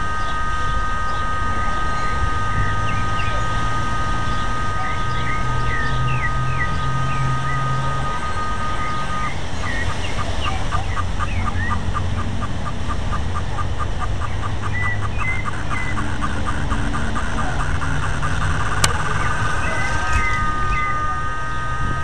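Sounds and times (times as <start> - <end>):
steady high whistle: 0.0 - 11.9, 14.7 - 22.0
birds chirping: 0.0 - 22.0
fast regular pipping: 0.0 - 22.0
wind buffeting microphone: 0.0 - 22.0.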